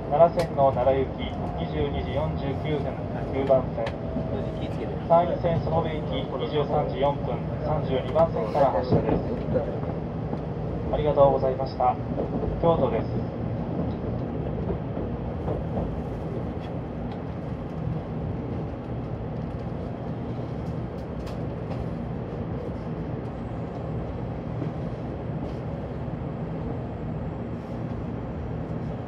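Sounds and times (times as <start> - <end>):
train rumble inside cabin: 0.0 - 29.0.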